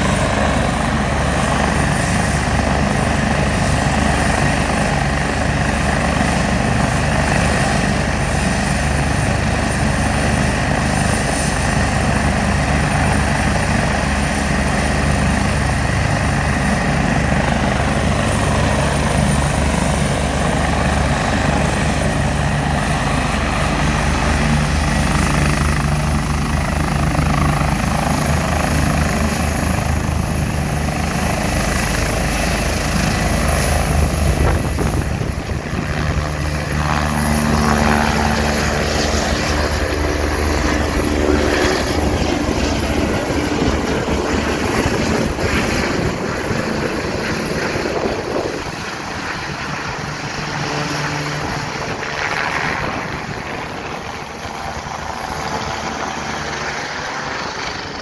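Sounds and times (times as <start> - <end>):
helicopter rotor chop: 0.0 - 58.0
high turbine whine: 0.0 - 58.0.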